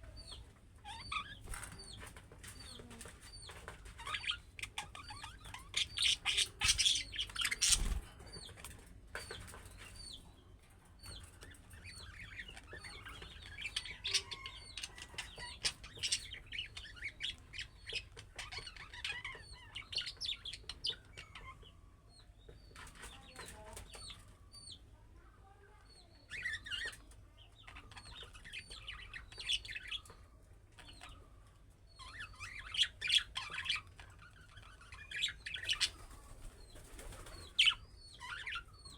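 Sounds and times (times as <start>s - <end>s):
budgerigars chirping and warbling: 0.0s - 10.4s, 11.0s - 24.8s, 25.9s - 38.9s.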